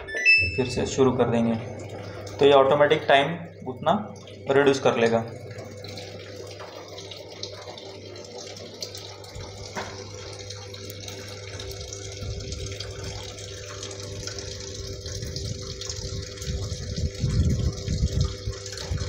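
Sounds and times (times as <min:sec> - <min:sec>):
washing machine hum: 0:00.0 - 0:19.0
water pouring into washing machine: 0:00.0 - 0:19.0.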